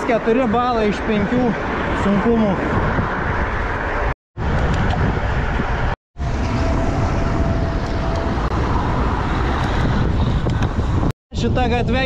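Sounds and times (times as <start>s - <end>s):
tyre noise on road: 0.0s - 11.1s
wind buffeting microphone: 0.1s - 12.0s.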